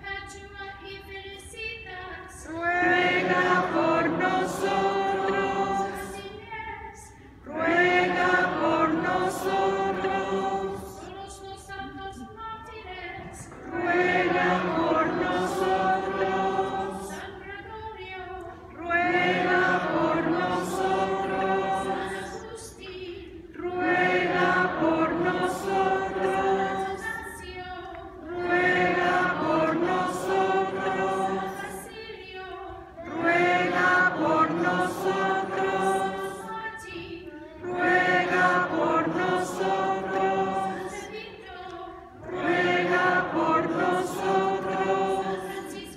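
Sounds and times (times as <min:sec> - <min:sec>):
congregation singing response: 0:02.4 - 0:45.9.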